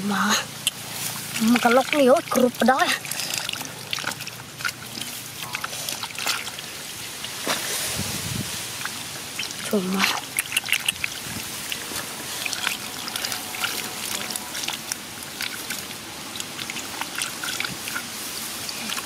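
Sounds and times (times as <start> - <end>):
splashing in muddy water: 0.4 - 19.0.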